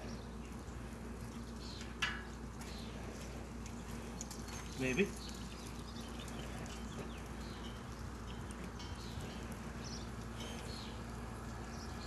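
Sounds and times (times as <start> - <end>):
low steady hum: 0.0 - 12.0
small birds chirping: 0.0 - 12.0.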